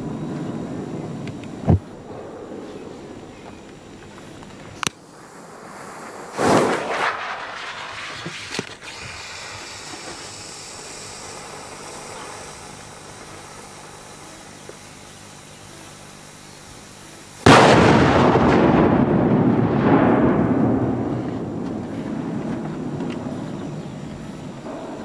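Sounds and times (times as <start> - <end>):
firework blast rumbling: 0.0 - 14.2, 17.4 - 25.0
background hiss: 0.0 - 25.0.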